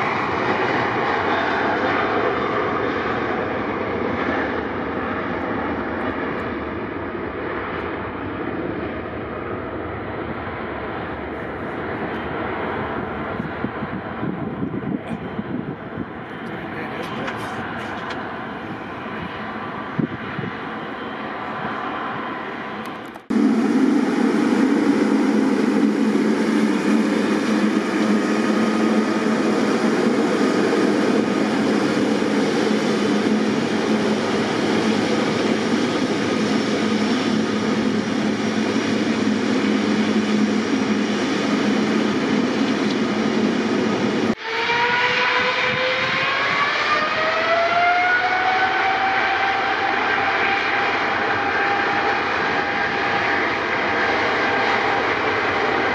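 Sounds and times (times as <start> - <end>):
distant airliner takeoff: 0.0 - 55.9
jet engine rising whine: 0.0 - 55.9
jet engines rumbling: 0.0 - 55.9.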